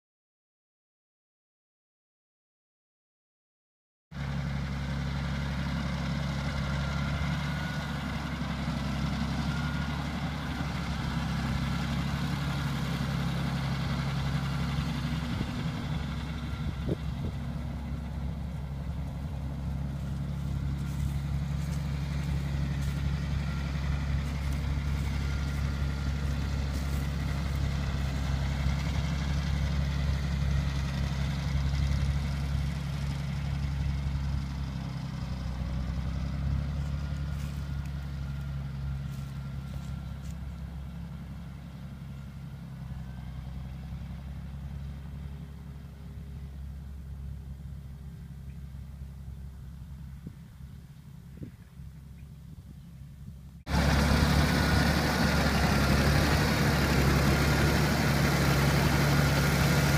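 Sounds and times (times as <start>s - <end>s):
tractor diesel engine running: 4.2s - 59.9s.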